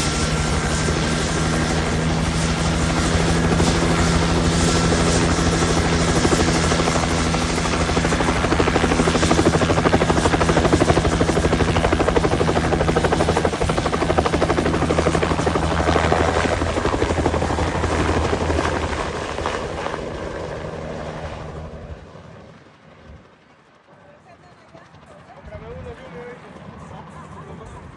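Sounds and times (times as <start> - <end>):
helicopter rotor chop: 0.0 - 27.9.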